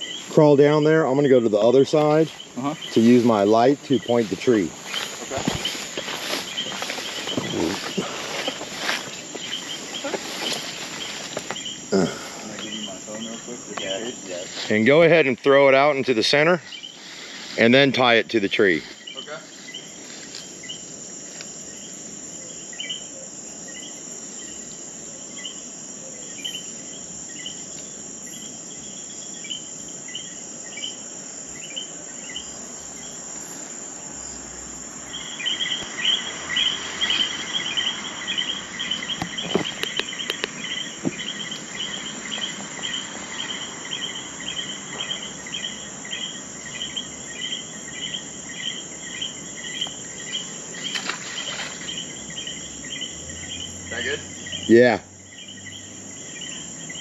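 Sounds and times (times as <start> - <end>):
high cricket trill: 0.0 - 57.0
rapid insect chirping: 0.0 - 57.0.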